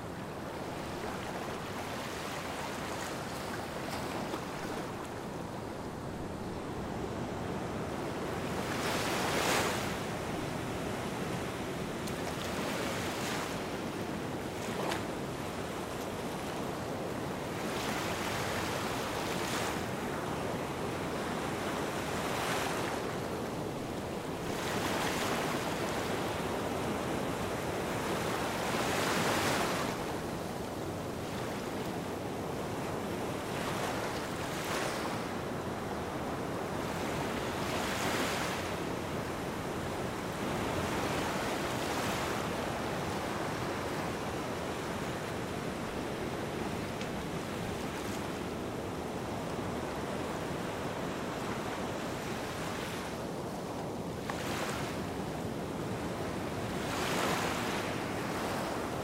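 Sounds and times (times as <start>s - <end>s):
small waves washing onto sand: 0.0s - 59.0s.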